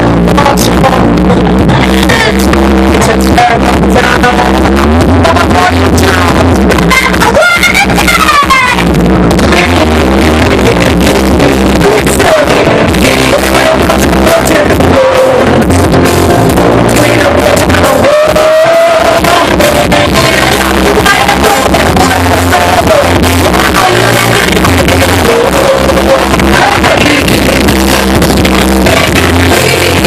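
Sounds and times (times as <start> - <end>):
loud distorted rock band: 0.0 - 30.0
person singing: 0.0 - 30.0.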